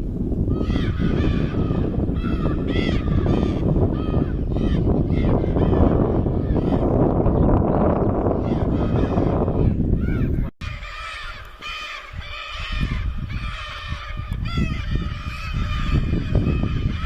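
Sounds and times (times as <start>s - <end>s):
wind noise rumble: 0.0s - 17.0s
birds giving harsh calls: 0.5s - 17.0s.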